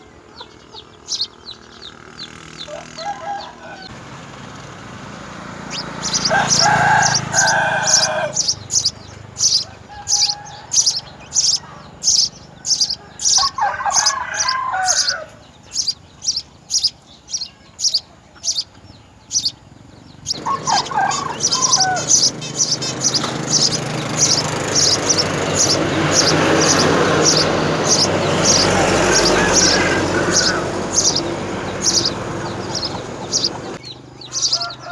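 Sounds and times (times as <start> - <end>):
lower bird calls: 0.0 - 3.9, 5.6 - 34.9
sparrow chirping: 0.0 - 3.9, 5.4 - 34.9.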